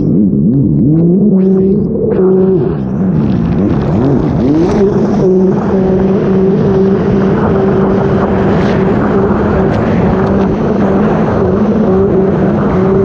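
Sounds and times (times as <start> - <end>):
jet ski engine at high revs: 0.0 - 13.0
water rushing and spraying: 2.1 - 13.0.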